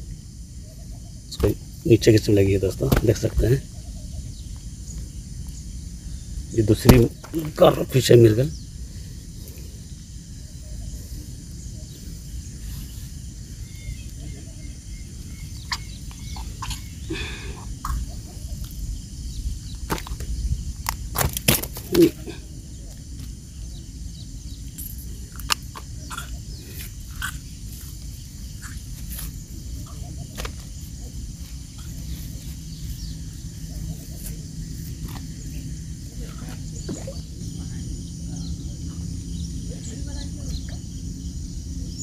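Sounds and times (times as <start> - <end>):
steady low rumble: 0.0 - 21.2, 22.2 - 42.0.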